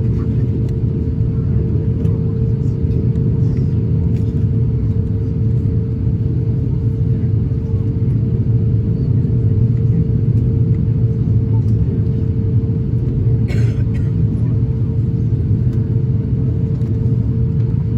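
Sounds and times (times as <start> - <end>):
aircraft cabin low rumble: 0.0 - 17.9
constant steady hum: 0.0 - 17.9.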